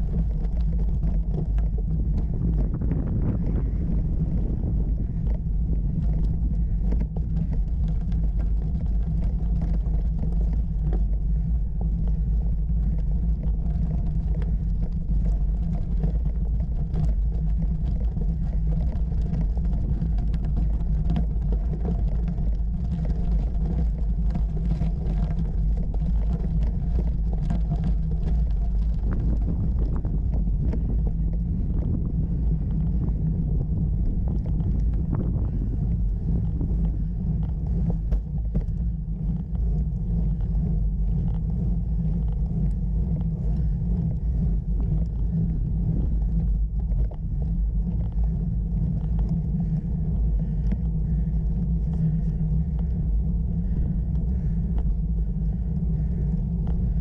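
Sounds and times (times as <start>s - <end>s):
bicycle tyres rumbling on gravel: 0.0s - 57.0s
stones crackling under tyres: 0.0s - 57.0s.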